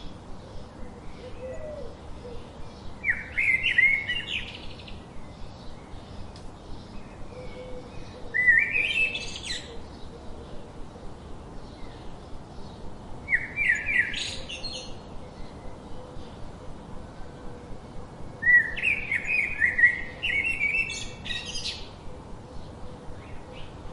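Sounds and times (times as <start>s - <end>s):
faint bird chirps: 0.0s - 23.9s
songbird singing rising phrases: 0.0s - 23.9s.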